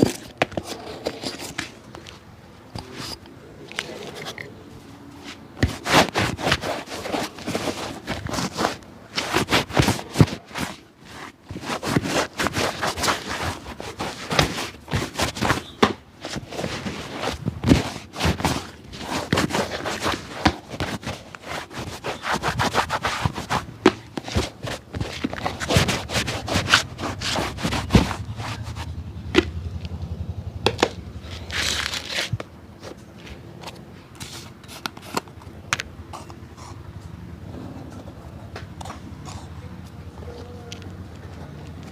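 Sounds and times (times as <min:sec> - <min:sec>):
scraping and rubbing on shoe: 0:00.0 - 0:29.7, 0:30.8 - 0:40.6.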